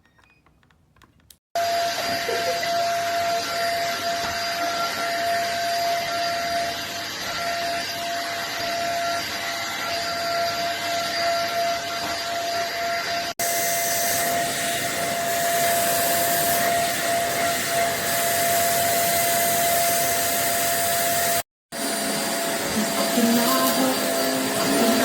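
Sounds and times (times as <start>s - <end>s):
vacuum cleaner running: 1.6s - 25.0s.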